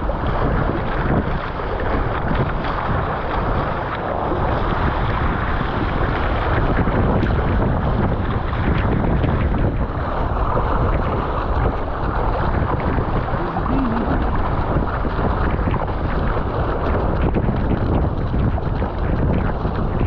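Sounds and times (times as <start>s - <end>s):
water rushing along boat hull: 0.0s - 20.0s
wind buffeting microphone: 0.0s - 20.0s.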